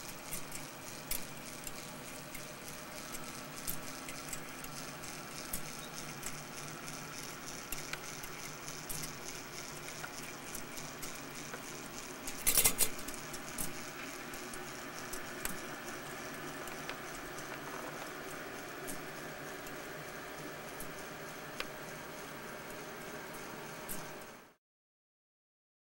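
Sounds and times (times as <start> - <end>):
clock mechanism clicking: 0.0 - 24.4.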